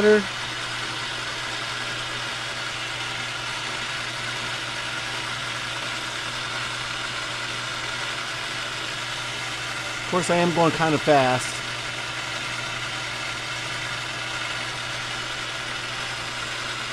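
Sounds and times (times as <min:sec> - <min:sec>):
metal lathe cutting: 0:00.0 - 0:16.9.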